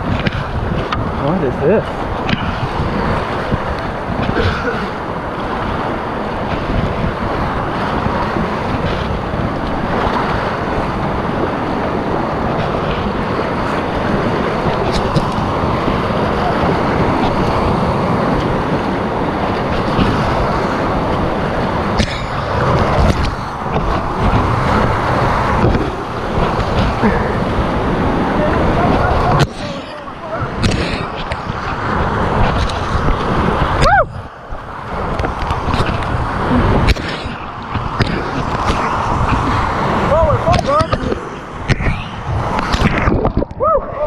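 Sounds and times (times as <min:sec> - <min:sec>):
whitewater rapids rushing: 0:00.0 - 0:44.0.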